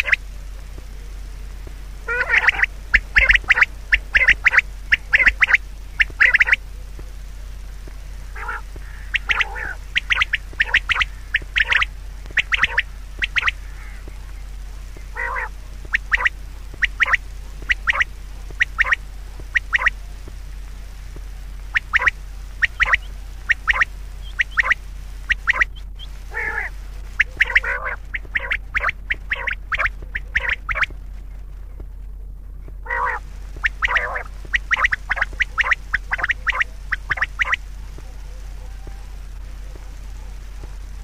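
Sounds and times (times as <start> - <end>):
bird calls: 0.0 - 31.9, 32.7 - 41.0.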